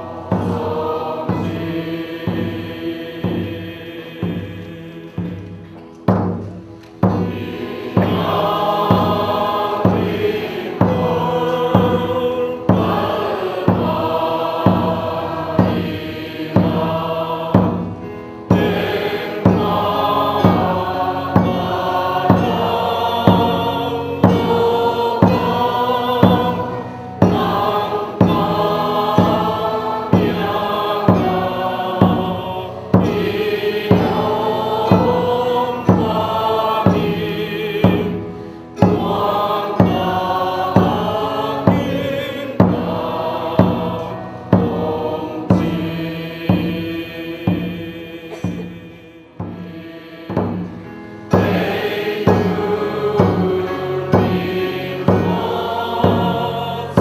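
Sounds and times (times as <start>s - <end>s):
congregation singing a hymn: 0.0s - 57.0s
steady beat: 0.0s - 57.0s.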